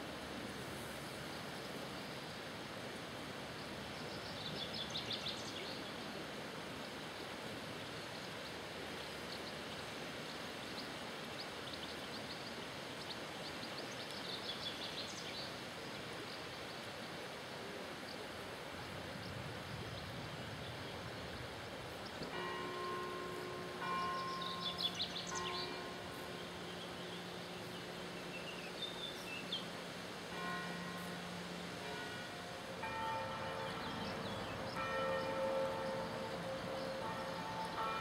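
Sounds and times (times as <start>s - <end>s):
river water flowing: 0.0s - 38.0s.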